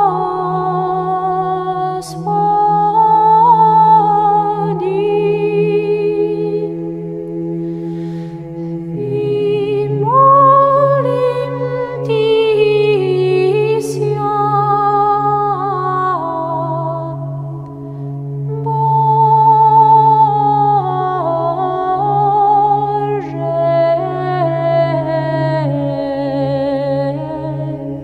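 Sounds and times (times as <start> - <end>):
slow vocal chant over drone: 0.0 - 28.0.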